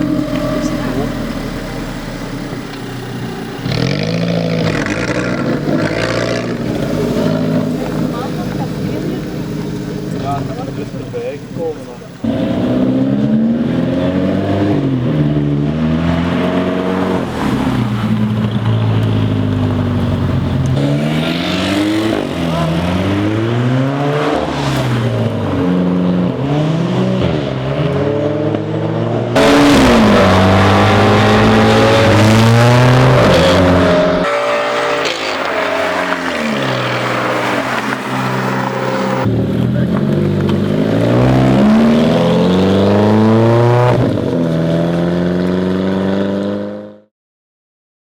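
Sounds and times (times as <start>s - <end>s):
car engine revving and accelerating: 0.0s - 47.1s.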